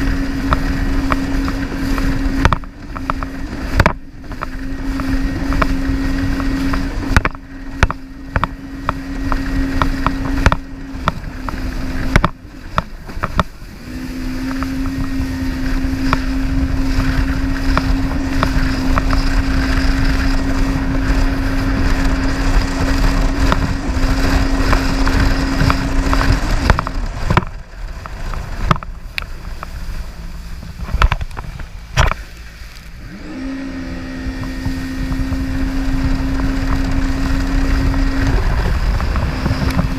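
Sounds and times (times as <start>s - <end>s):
jet ski engine droning: 0.0s - 39.9s
water rumbling: 0.0s - 39.9s.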